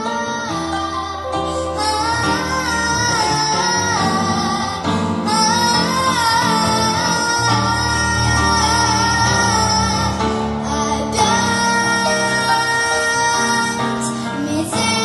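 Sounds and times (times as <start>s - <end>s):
girl singing with vibrato: 0.0s - 15.0s.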